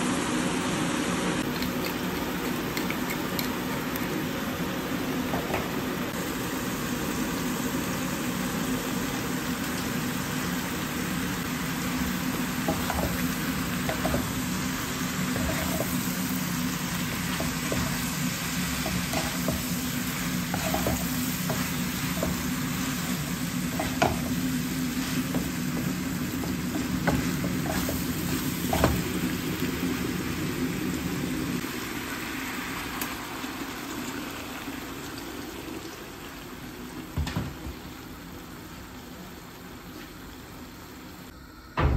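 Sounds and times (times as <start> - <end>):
meat sizzling in a wok: 0.0 - 41.3.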